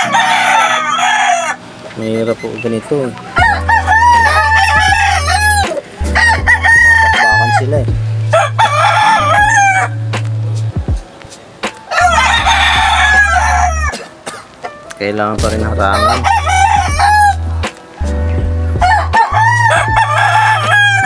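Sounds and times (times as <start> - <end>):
roosters crowing: 0.0 - 10.2, 11.9 - 14.9, 15.7 - 21.0.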